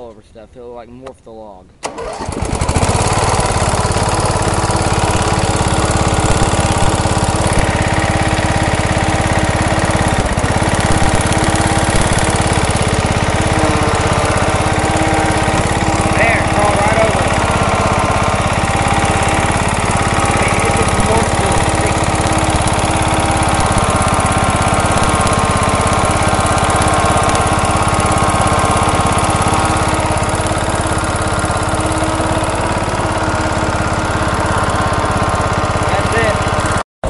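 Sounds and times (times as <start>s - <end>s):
riding lawnmower engine running: 1.8s - 36.8s.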